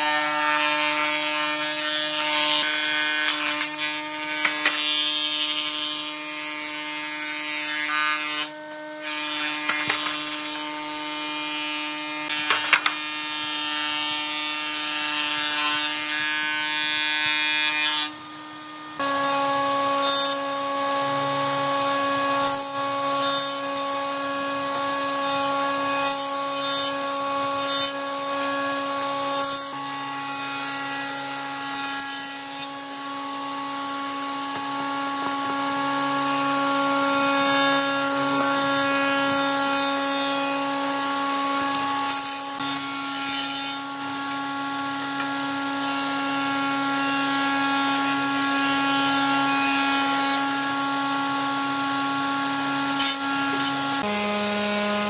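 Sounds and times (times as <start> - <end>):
planer machine whining: 0.0 - 55.0.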